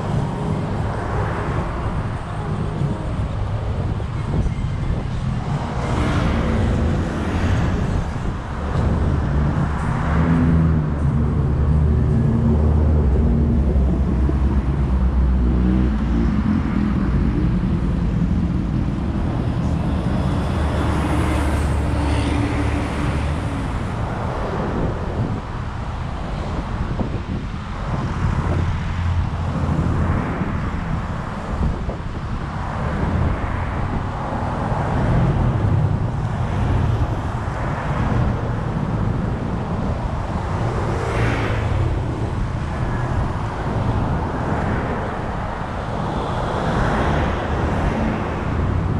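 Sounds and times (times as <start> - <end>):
vehicle engines rumbling: 0.0 - 48.9.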